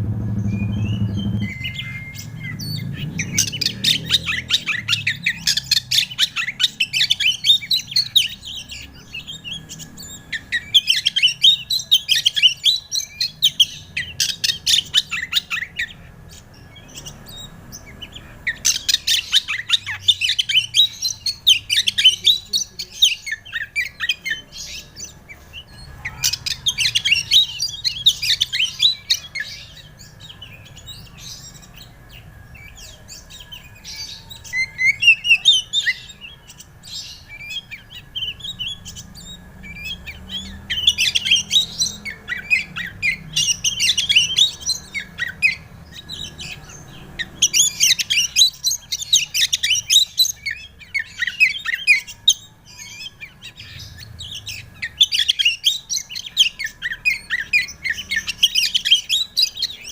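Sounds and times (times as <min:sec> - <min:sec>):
bird singing chirps and whistles: 0:00.0 - 0:59.9.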